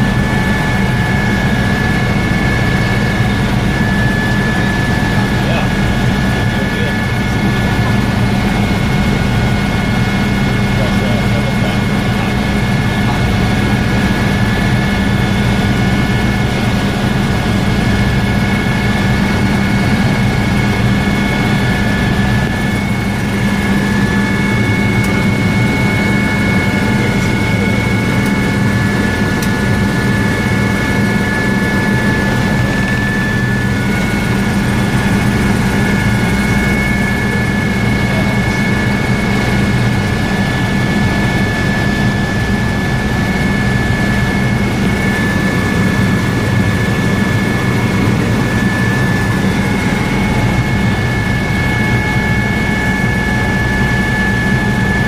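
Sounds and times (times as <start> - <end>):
helicopter rotor and engine drone: 0.0 - 55.0
high-pitched whine: 0.0 - 55.0.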